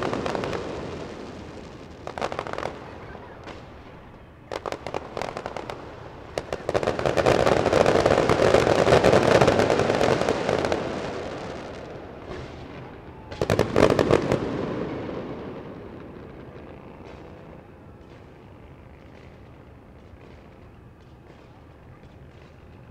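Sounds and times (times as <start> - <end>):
fireworks bangs and pops: 0.0 - 22.9.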